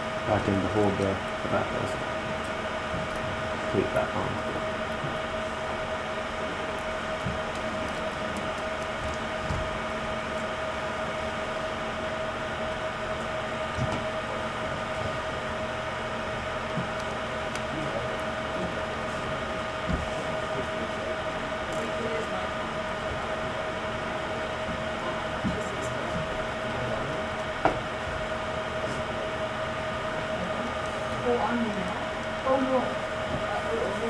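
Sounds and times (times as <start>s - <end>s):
constant high whine: 0.0s - 34.0s
steady hum: 0.0s - 34.0s.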